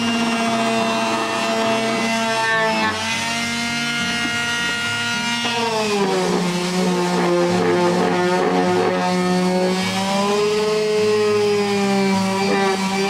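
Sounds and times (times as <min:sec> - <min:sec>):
electric sander buzzing on wood: 0:00.0 - 0:13.0.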